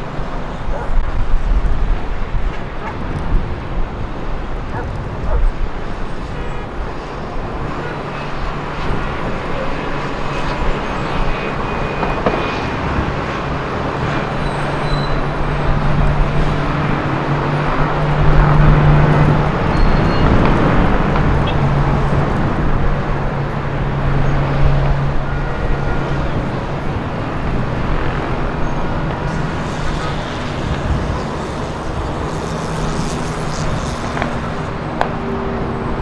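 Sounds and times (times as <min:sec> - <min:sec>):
city street traffic: 0:00.0 - 0:36.0
vehicle engine running: 0:07.0 - 0:36.0.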